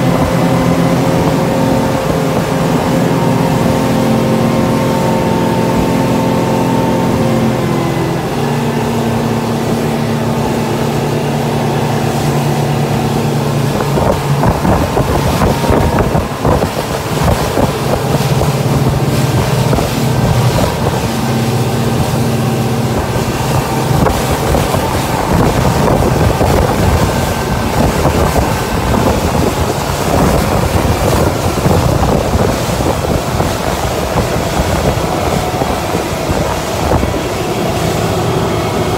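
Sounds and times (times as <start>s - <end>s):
motorboat engine running: 0.0s - 38.9s
water rushing past hull: 0.0s - 38.9s
wind buffeting microphone: 0.0s - 38.9s.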